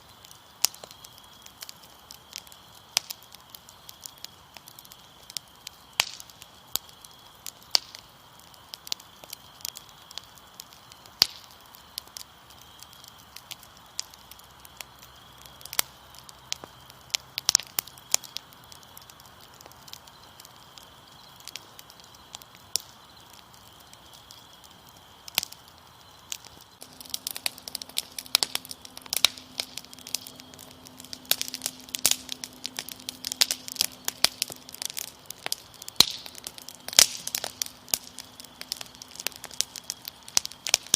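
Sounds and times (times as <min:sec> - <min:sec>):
crickets chirping: 0:00.0 - 0:40.9
wood fire crackling: 0:00.0 - 0:40.9.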